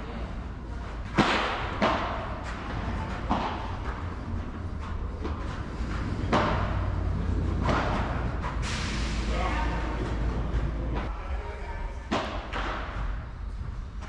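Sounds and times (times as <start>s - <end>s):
steady low hum: 0.0s - 11.1s, 11.7s - 14.0s.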